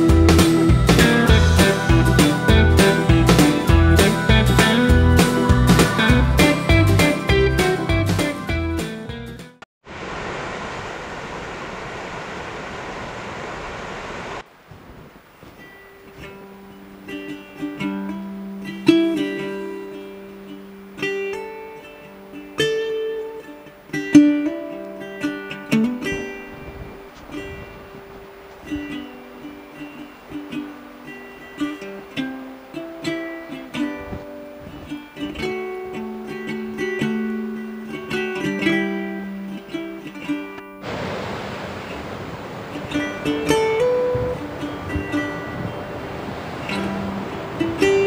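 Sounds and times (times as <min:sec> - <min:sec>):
plucked string instrument melody: 0:00.0 - 0:09.6, 0:15.5 - 0:41.0, 0:41.6 - 0:48.0.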